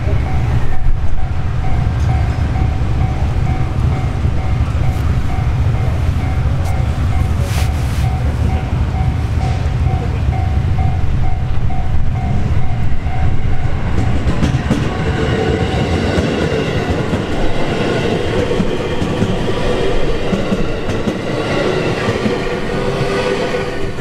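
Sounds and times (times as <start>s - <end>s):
train wheels clacking on rails: 0.0s - 7.5s, 8.1s - 24.0s.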